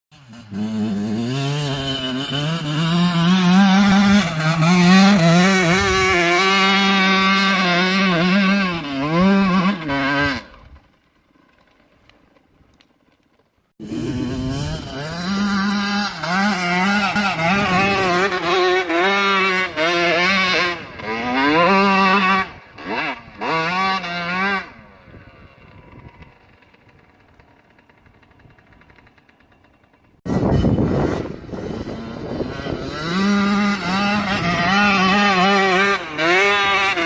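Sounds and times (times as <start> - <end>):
dirt bike engine revving: 0.1 - 11.0, 13.8 - 37.0.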